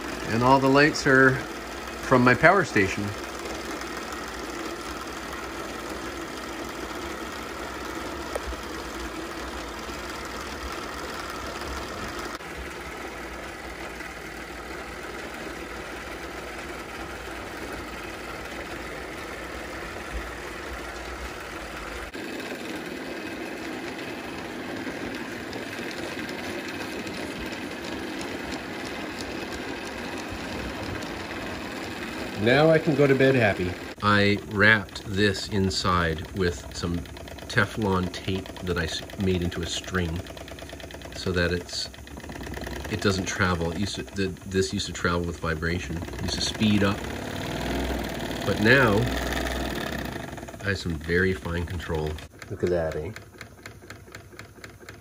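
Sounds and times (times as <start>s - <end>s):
small steam engine running: 0.0s - 55.0s.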